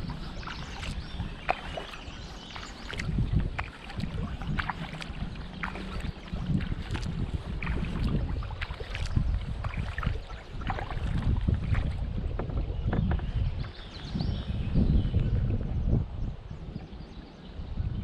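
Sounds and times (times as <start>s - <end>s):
paddle splashing water: 0.0s - 15.8s
wind on microphone: 0.0s - 18.0s.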